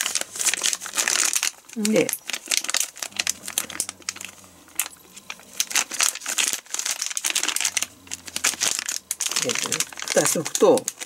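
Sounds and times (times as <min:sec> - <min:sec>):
plastic pouch crinkling: 0:00.0 - 0:11.0.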